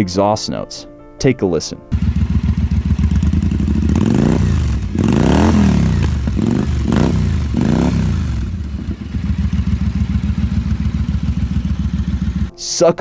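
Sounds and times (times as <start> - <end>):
motorcycle engine idling and revving: 1.9 - 12.5.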